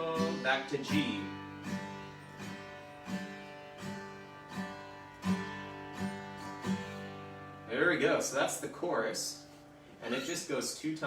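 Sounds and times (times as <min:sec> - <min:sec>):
acoustic guitar strumming: 0:00.0 - 0:10.7.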